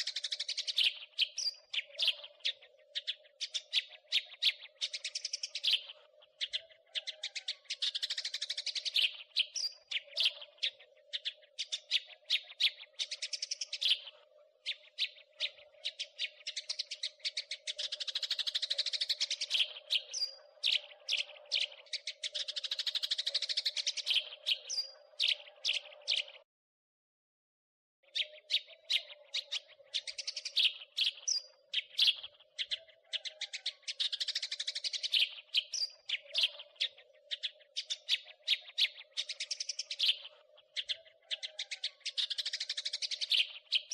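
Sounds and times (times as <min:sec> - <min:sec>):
sparrows chirping: 0:00.0 - 0:26.4, 0:28.0 - 0:43.9.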